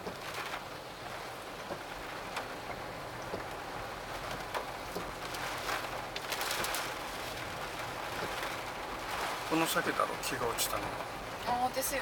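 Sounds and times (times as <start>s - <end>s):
heavy rain falling: 0.0s - 12.0s
raindrops ticking: 0.0s - 12.0s.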